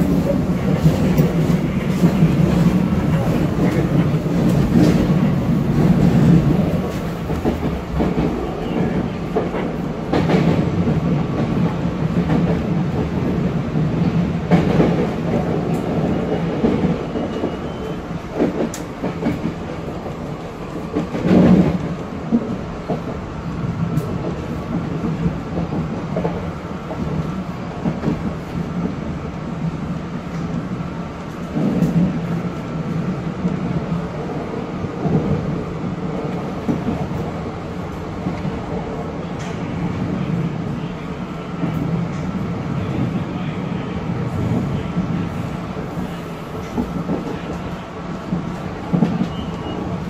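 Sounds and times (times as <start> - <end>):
train ride hum and rumble: 0.0 - 50.0.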